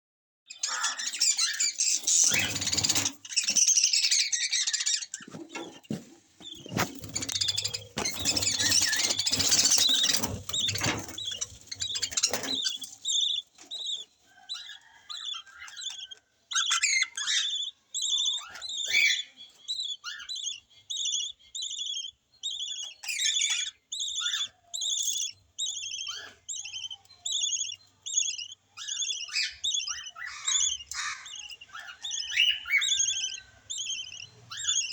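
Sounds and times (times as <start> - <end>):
lovebirds chattering: 0.5 - 34.9.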